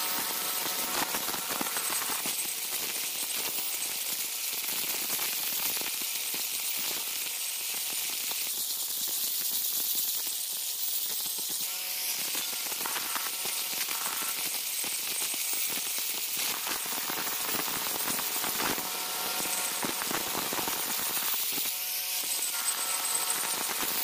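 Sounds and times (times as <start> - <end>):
angle grinder grinding stone: 0.0 - 24.0.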